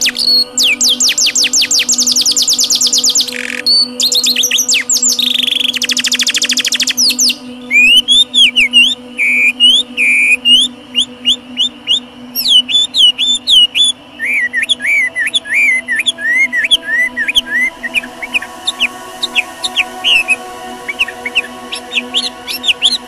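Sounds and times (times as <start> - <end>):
songbird whistling phrases: 0.0 - 23.0.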